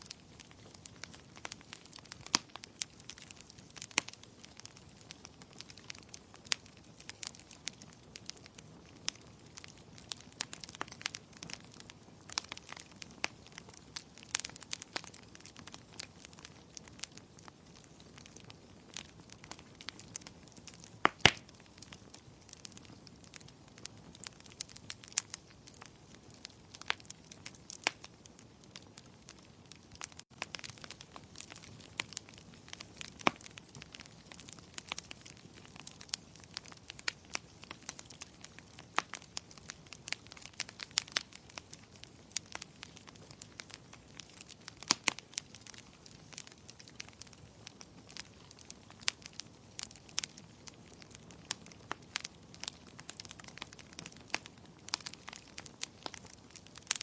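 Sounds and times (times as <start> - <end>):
sharp pops and snaps: 0.0 - 57.0
soft hiss of burning logs: 0.0 - 57.0
wood fire crackling: 0.0 - 57.0.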